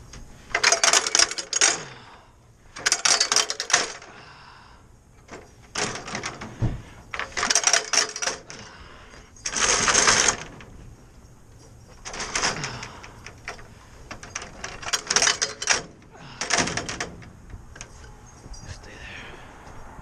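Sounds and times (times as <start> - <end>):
metallic clinking and clattering: 0.0 - 2.0, 2.8 - 4.1, 5.2 - 18.9.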